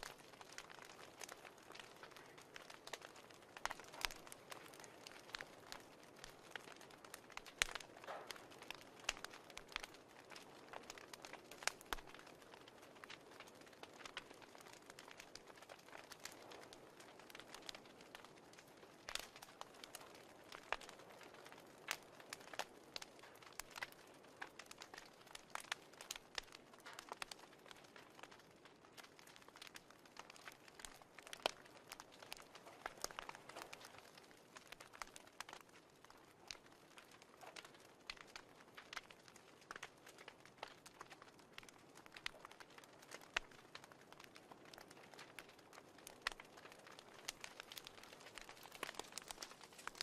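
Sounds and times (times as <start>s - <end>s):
fireplace crackling: 0.0s - 50.0s.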